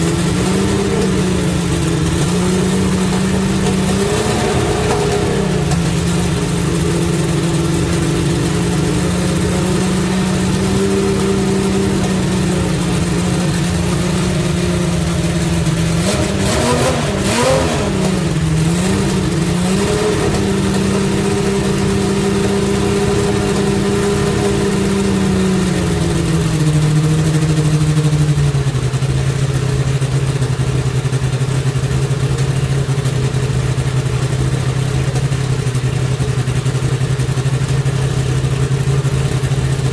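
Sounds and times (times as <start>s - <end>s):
car engine idling: 0.0s - 39.9s
engine throttle blips: 0.0s - 39.9s.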